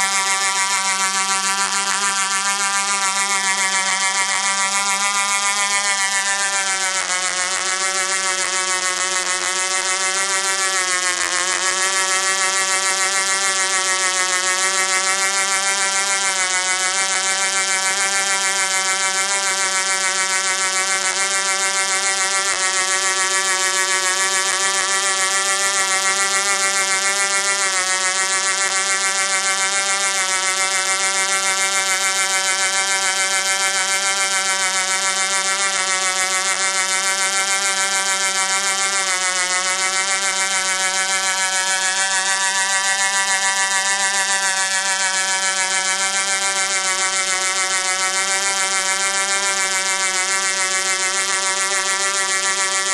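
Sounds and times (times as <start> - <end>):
model helicopter engine buzzing: 0.0 - 52.9.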